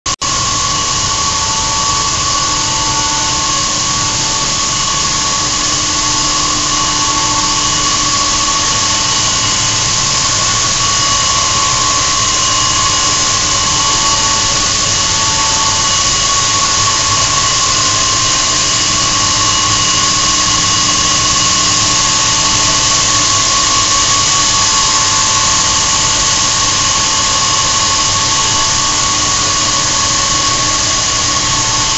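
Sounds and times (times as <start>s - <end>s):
compressor rushing with high whine: 0.1s - 31.9s
pulsing lower tone: 0.2s - 31.9s.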